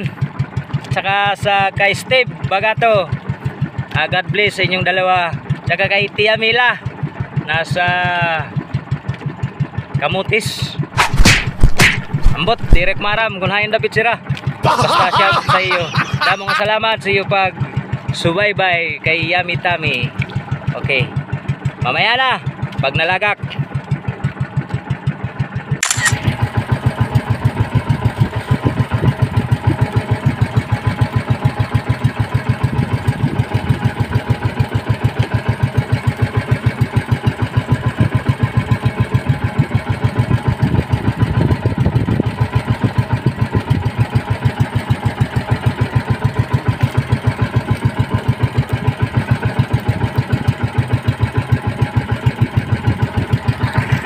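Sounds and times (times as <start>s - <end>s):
boat engine puttering: 0.0s - 7.8s, 8.4s - 13.6s, 19.0s - 54.0s.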